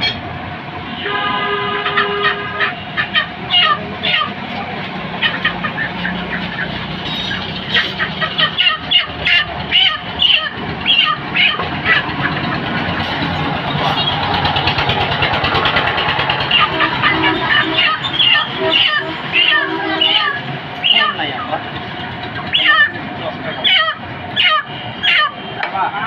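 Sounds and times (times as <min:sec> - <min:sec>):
vehicle engine running: 0:00.0 - 0:25.6
road traffic: 0:00.0 - 0:26.0.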